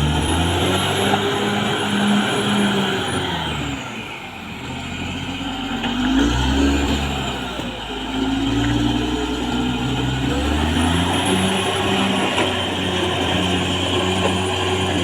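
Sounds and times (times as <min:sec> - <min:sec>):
bulldozer diesel engine working: 0:00.0 - 0:15.0.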